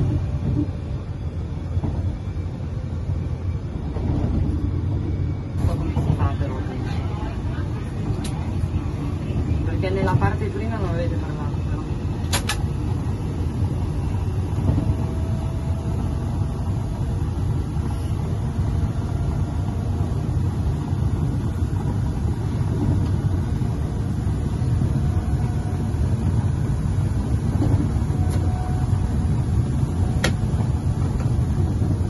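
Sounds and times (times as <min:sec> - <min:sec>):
train low rumble: 0:00.0 - 0:32.0.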